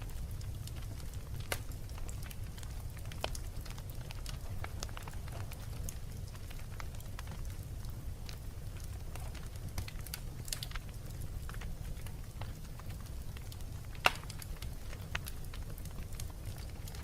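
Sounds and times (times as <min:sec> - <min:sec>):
fire crackling and popping: 0:00.0 - 0:17.0
fire rumbling in fireplace: 0:00.0 - 0:17.0.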